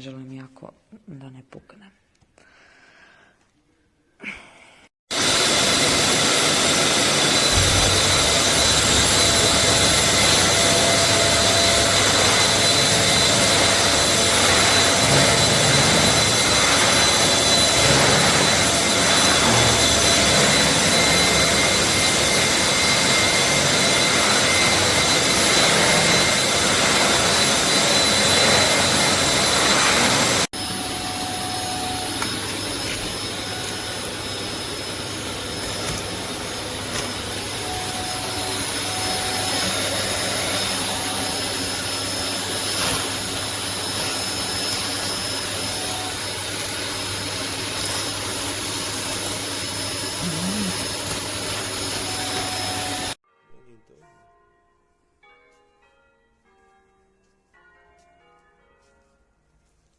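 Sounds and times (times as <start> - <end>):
vacuum cleaner motor whining: 5.1 - 53.2.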